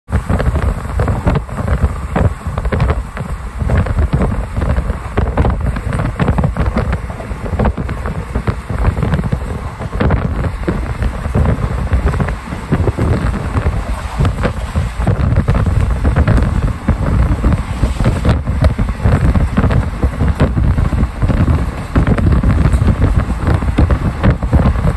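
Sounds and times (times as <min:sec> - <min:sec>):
train rumbling on track: 0:00.0 - 0:24.9
wind buffeting microphone: 0:00.1 - 0:24.9.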